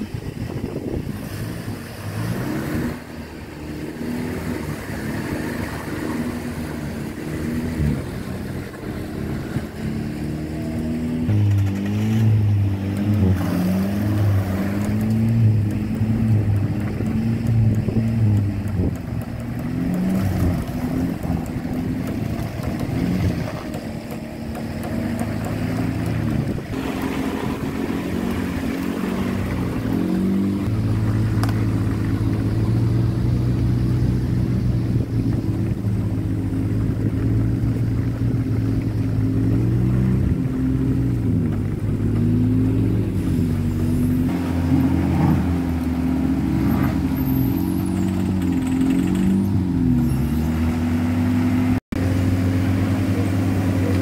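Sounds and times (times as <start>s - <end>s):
truck engine labouring: 0.0s - 54.0s.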